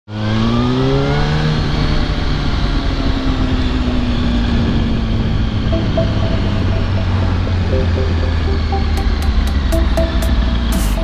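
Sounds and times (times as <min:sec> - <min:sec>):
motorcycle engine drone: 0:00.1 - 0:11.0.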